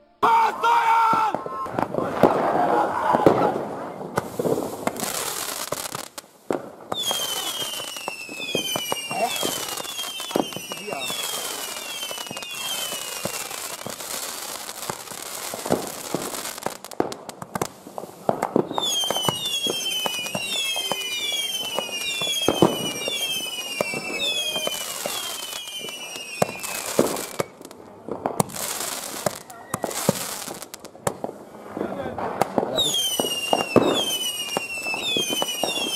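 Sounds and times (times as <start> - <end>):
firework bangs: 0.2 - 35.9
firework hiss with pops: 1.1 - 35.9
falling firework whistles: 1.2 - 27.7, 28.4 - 30.8, 32.6 - 35.9.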